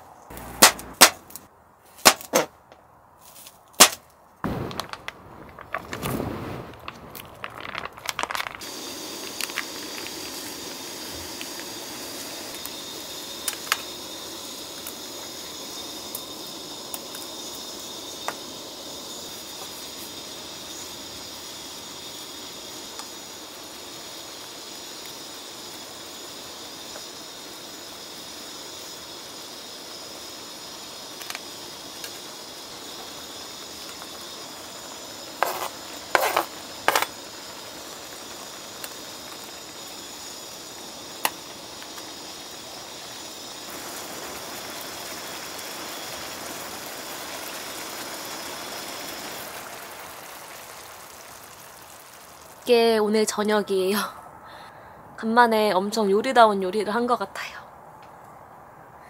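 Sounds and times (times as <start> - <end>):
food sizzling in a pan: 4.5 - 54.0.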